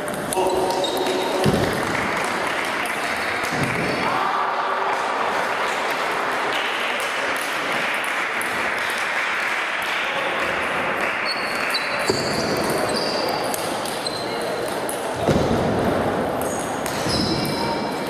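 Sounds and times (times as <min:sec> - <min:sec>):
busy sports hall noise: 0:00.0 - 0:18.0.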